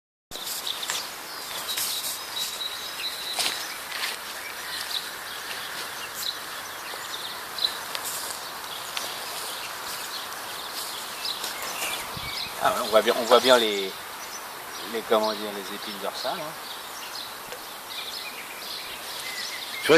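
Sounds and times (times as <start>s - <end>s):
bird chirps and twitters: 0.4s - 19.9s
steady hiss: 0.4s - 19.9s.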